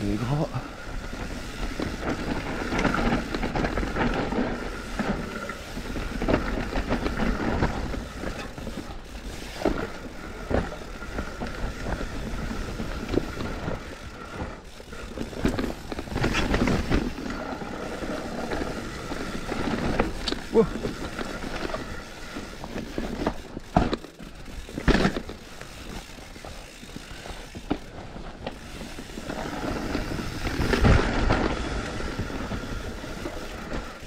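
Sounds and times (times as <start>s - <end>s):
bike rattling and knocking: 0.0s - 34.0s
bike tyres on wet soil: 0.0s - 34.0s.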